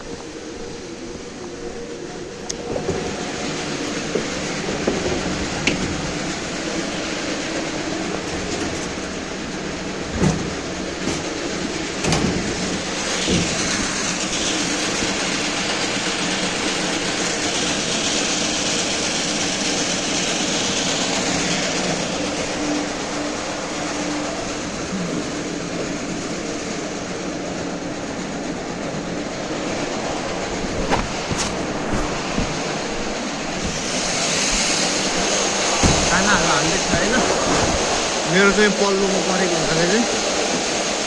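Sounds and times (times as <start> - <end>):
feeding machine rumbling: 0.0 - 41.0.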